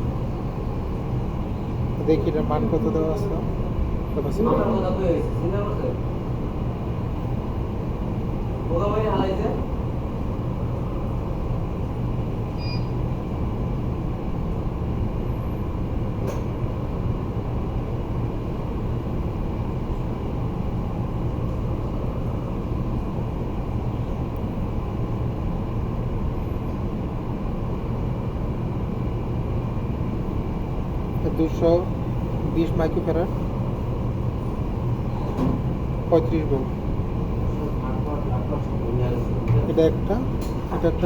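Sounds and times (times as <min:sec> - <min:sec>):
machinery droning hum: 0:00.0 - 0:41.0.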